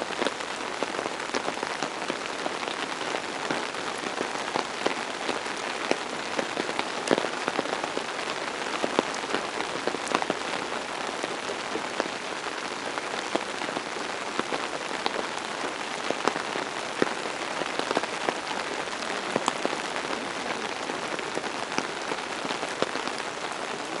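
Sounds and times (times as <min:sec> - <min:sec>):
raindrops ticking close by: 0:00.0 - 0:24.0
steady rain hiss: 0:00.0 - 0:24.0.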